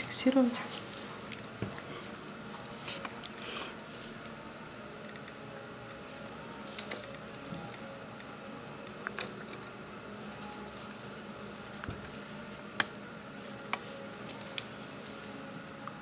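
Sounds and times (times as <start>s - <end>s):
low room tone hum: 0.0s - 16.0s.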